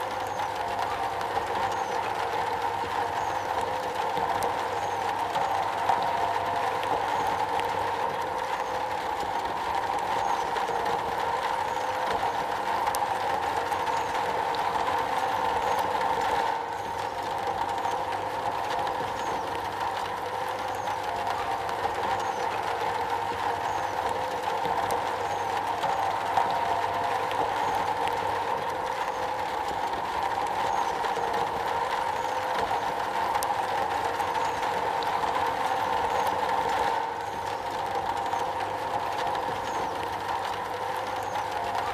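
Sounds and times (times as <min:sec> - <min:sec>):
rain pattering on a metal roof: 0:00.0 - 0:41.9.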